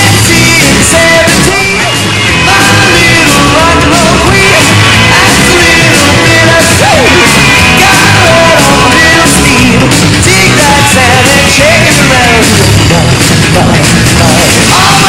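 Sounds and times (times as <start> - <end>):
loud rock music with singing: 0.0 - 15.0.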